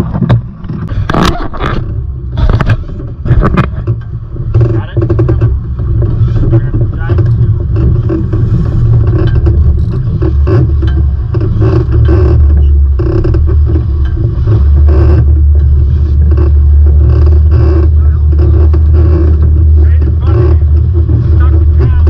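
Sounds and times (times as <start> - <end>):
water rushing past hulls: 0.0 - 22.0
wind buffeting microphone: 0.0 - 22.0.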